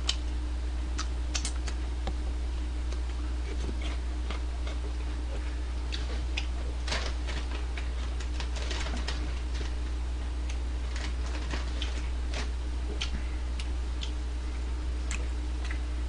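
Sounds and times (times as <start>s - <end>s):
crispy fried chicken crackling: 0.0s - 15.9s
low electrical hum: 0.0s - 16.0s.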